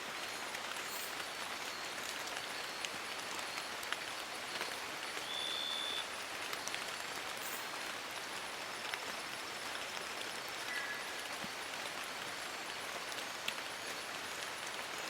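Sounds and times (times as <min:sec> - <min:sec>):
rain on leaves: 0:00.0 - 0:15.0.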